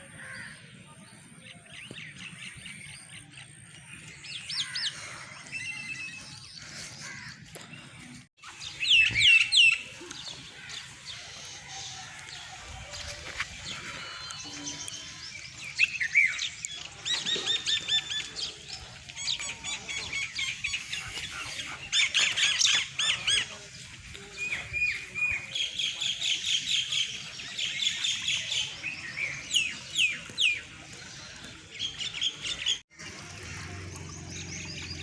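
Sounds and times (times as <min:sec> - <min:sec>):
small birds chirping: 0:01.1 - 0:35.0.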